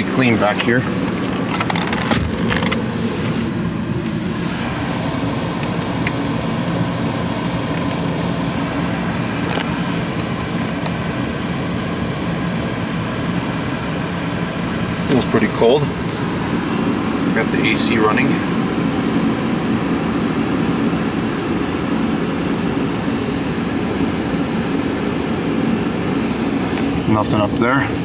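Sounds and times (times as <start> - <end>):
air conditioning blower: 0.0 - 28.0
car engine idling: 0.0 - 28.0.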